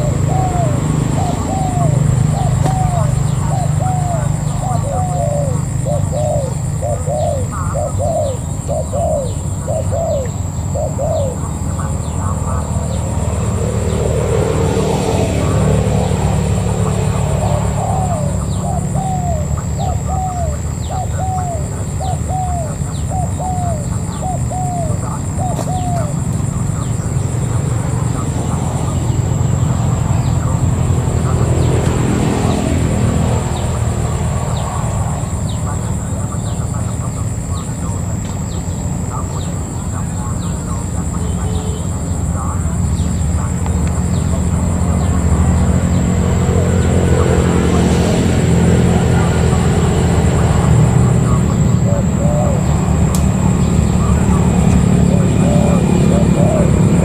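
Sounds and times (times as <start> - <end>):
steady low rumble: 0.0 - 41.2, 42.0 - 57.0
doves cooing: 0.0 - 57.0.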